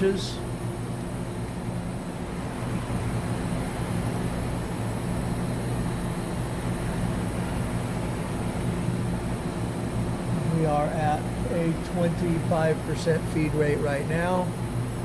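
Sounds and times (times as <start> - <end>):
machine axis drive humming: 0.0 - 15.0.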